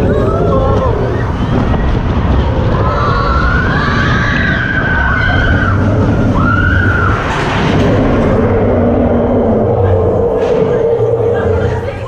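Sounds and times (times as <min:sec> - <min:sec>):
ride vehicle rumble: 0:00.0 - 0:12.0.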